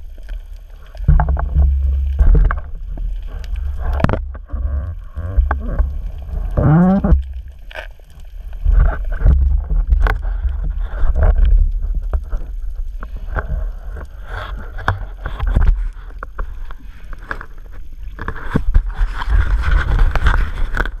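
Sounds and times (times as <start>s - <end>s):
water churning and rumbling: 0.0s - 17.5s.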